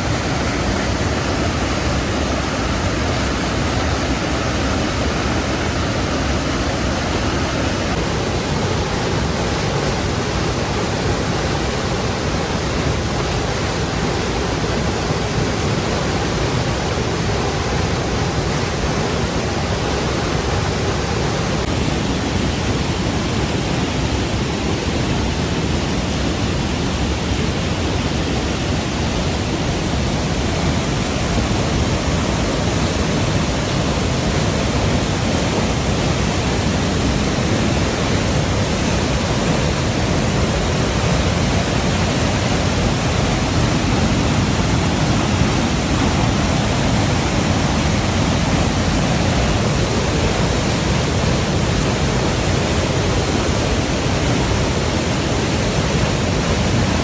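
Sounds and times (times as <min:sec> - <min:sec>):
rushing falling water: 0:00.0 - 0:57.0.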